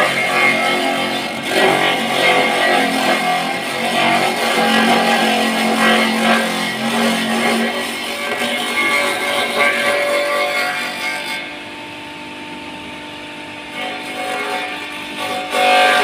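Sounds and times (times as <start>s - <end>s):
chopper machine grating fruit: 0.0s - 11.2s, 13.8s - 16.0s.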